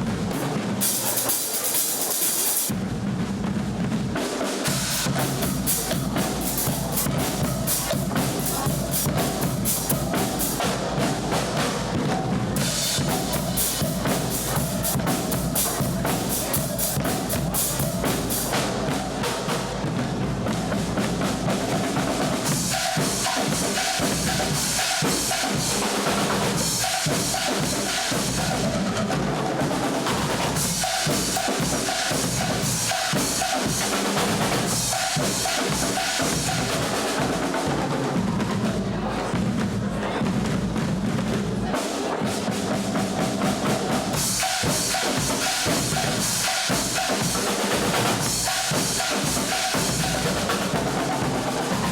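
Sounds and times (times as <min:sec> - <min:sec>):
bass drums and snare drums: 0:00.0 - 0:51.9.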